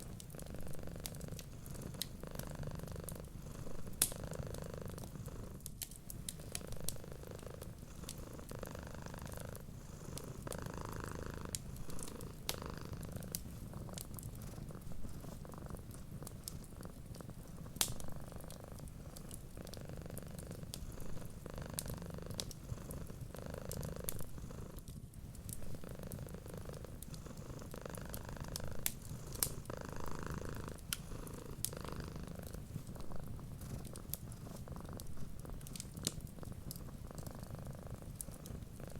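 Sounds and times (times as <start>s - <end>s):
wood fire crackling: 0.0s - 8.6s, 9.2s - 38.9s
cat purring: 0.0s - 38.9s.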